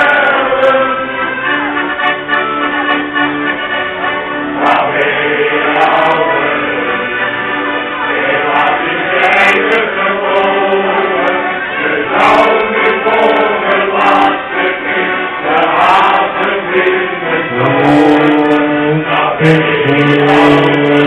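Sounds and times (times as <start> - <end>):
male choir singing: 0.0 - 1.8, 4.0 - 21.0
accordions: 0.0 - 21.0.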